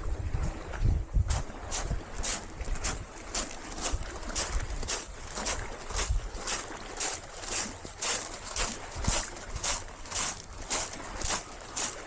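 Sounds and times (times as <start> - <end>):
wind rumbling on microphone: 0.0 - 12.0
footsteps walking: 1.3 - 12.0.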